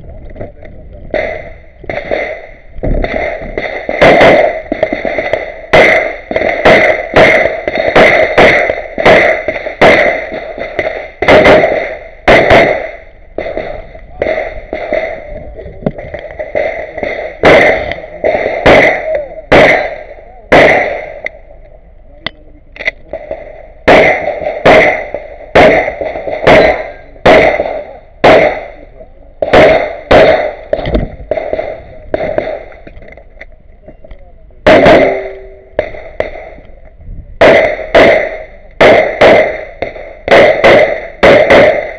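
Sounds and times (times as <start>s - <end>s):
pistol shots with ringing tail: 1.1s - 15.4s, 16.0s - 21.4s, 23.1s - 32.8s, 34.6s - 36.6s, 37.4s - 41.9s.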